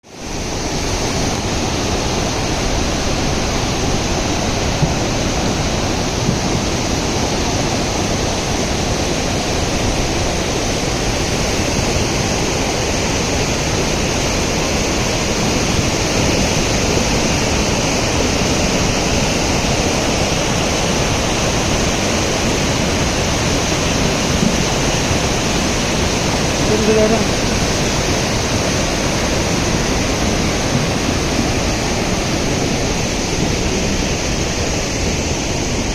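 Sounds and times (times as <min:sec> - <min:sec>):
flooded river rushing: 0:00.0 - 0:35.9.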